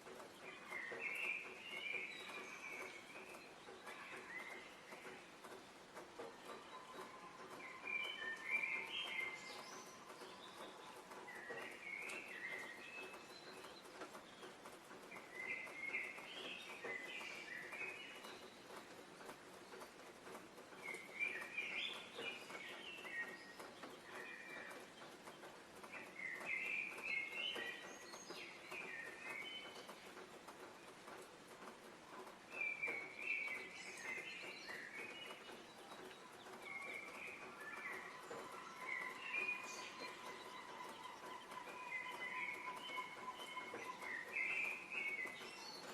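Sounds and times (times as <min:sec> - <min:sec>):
faint woodland background: 0:00.0 - 0:45.9
songbirds chirping: 0:00.0 - 0:45.9
steady outdoor hiss: 0:00.0 - 0:45.9.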